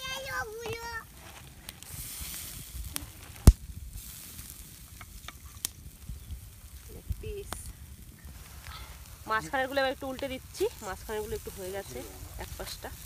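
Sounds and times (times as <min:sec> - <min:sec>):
chicken sizzling on a grill: 0:00.0 - 0:13.0.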